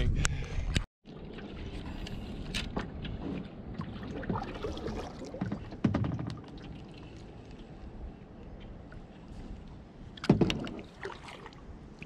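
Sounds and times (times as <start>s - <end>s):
water lapping at hull: 1.0s - 12.0s.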